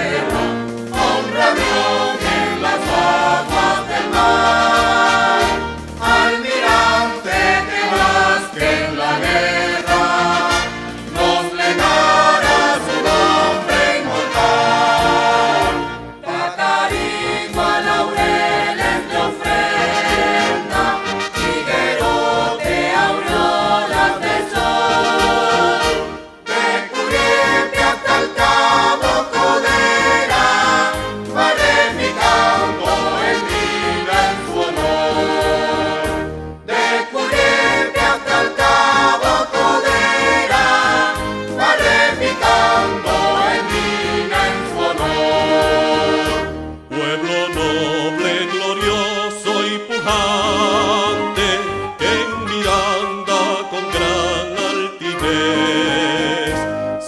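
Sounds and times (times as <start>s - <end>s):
choir singing an anthem: 0.0s - 57.0s
concert band accompaniment: 0.0s - 57.0s.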